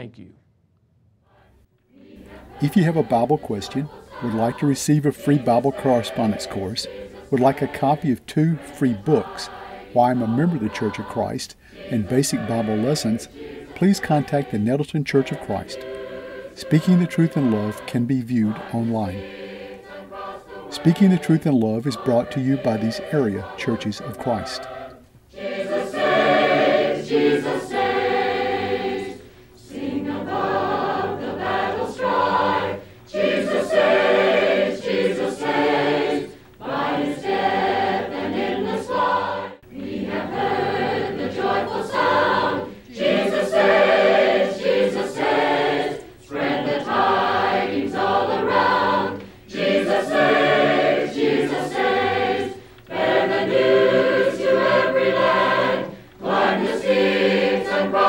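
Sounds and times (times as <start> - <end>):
choir singing a hymn: 1.3 - 58.0.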